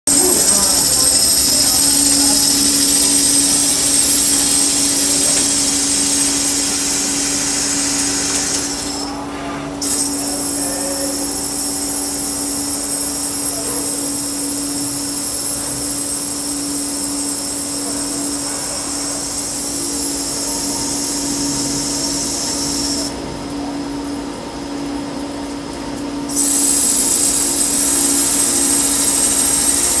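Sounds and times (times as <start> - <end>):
metal lathe hum and whine: 0.1 - 24.9, 25.5 - 30.0.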